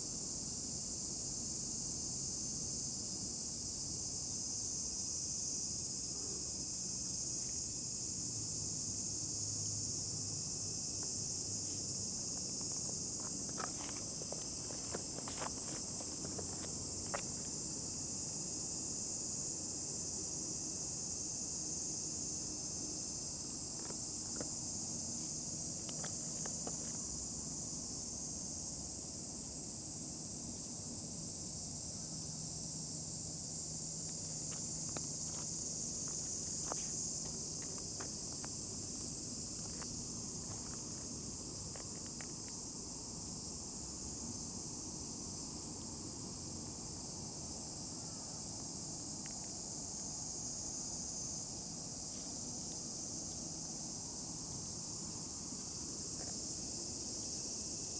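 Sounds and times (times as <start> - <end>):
insects chorus: 0.0 - 57.9.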